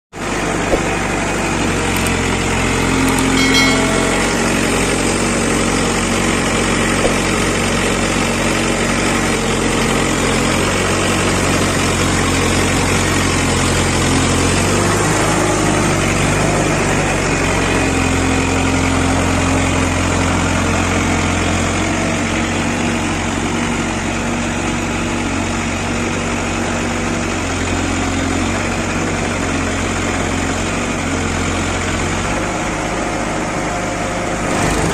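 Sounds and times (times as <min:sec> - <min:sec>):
heavy diesel engine running: 0:00.2 - 0:34.9.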